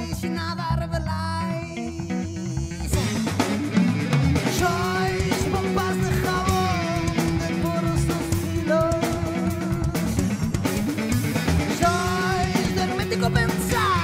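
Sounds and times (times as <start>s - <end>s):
funk-rock band playing: 0.0s - 14.0s.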